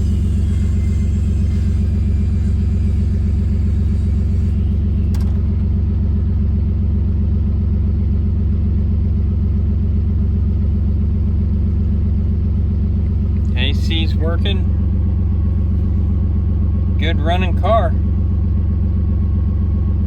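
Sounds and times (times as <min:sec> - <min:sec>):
car engine with loud exhaust: 0:00.0 - 0:20.0.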